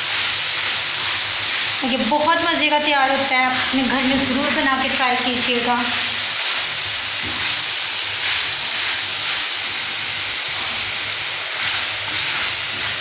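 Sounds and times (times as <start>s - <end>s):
chicken sizzling on a griddle: 0.0s - 13.0s
spatula stirring: 0.0s - 13.0s.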